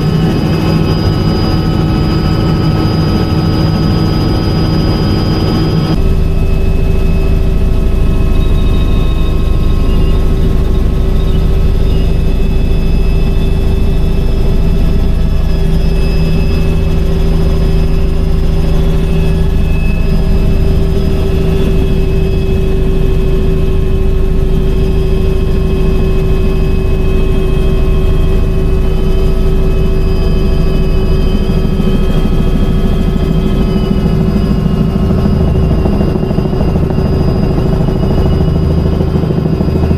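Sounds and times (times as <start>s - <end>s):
constant whining tones: 0.0s - 39.9s
helicopter rotor and turbine drone: 0.0s - 39.9s.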